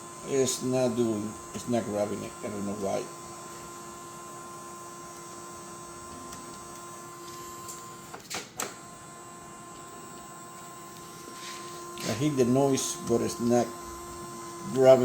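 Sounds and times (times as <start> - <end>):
feed motor whining: 0.0 - 15.0.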